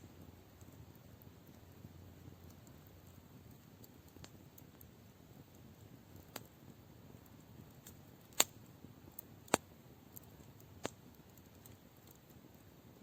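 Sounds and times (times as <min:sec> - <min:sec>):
faint low hiss: 0:00.0 - 0:13.0
wood fire crackling: 0:00.0 - 0:13.0.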